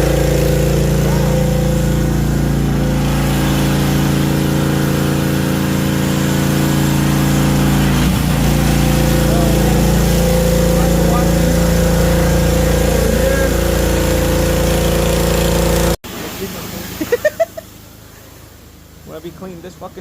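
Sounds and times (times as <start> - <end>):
small gasoline engine running: 0.0 - 17.4.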